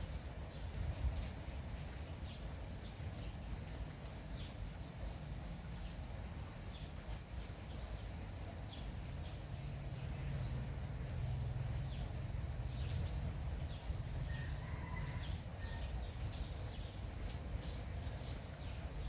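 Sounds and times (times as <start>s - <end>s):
light drizzle hissing: 0.0s - 19.0s
small birds chirping: 0.4s - 10.9s, 11.5s - 19.0s.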